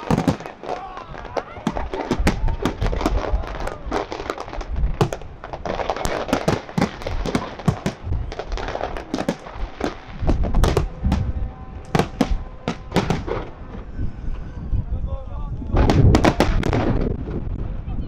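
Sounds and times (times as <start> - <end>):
fireworks bangs: 0.0 - 14.1, 15.6 - 17.6.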